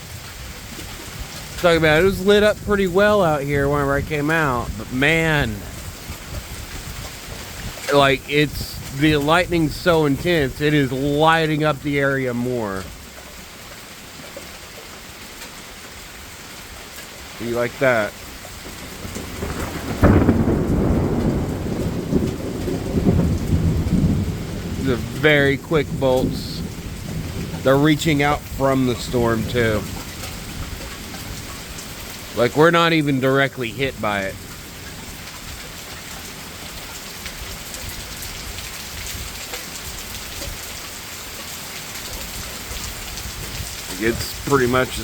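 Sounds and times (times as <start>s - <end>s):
steady rain: 0.0s - 45.0s
thunder clap and rumbling: 0.4s - 13.0s, 17.4s - 40.5s, 42.1s - 45.0s.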